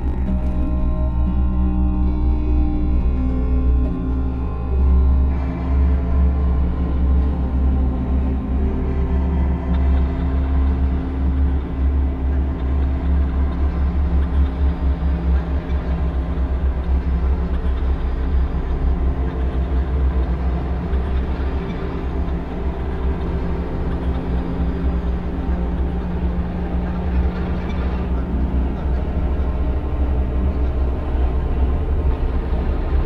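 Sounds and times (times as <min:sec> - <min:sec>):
droning tones: 0:00.0 - 0:33.0
low rumble: 0:00.0 - 0:33.0.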